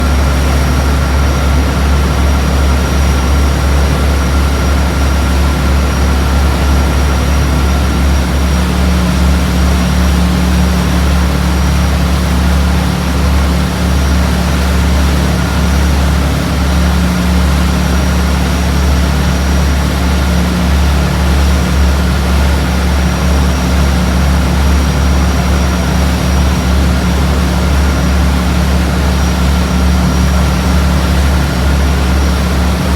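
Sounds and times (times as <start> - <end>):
ferry engine droning: 0.0 - 32.9.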